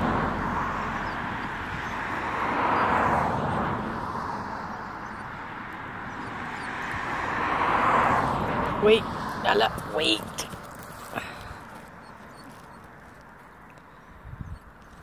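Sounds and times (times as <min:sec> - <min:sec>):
vehicle tyres rushing past: 0:00.0 - 0:14.6.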